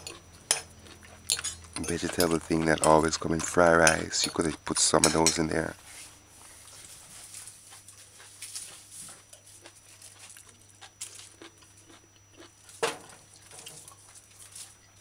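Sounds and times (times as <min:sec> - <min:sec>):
chewing and crunching: 0:00.0 - 0:05.8, 0:06.4 - 0:15.0.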